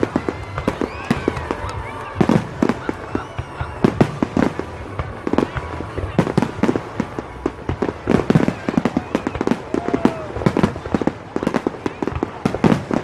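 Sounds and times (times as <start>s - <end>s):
fireworks banging and crackling: 0.0s - 13.0s.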